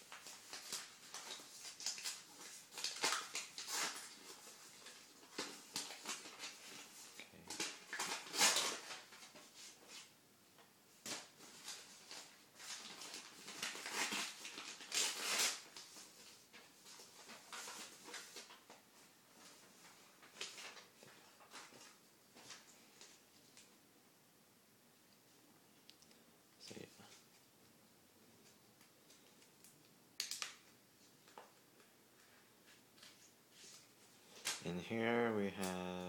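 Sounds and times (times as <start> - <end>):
paper rustling and crinkling: 0.0 - 10.2, 11.0 - 23.7, 28.4 - 34.9.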